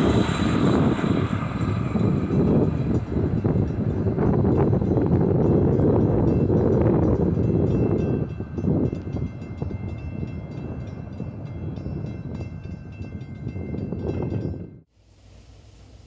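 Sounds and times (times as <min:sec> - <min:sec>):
faint wind: 0:00.0 - 0:16.0
train rumbling along track: 0:00.0 - 0:16.0.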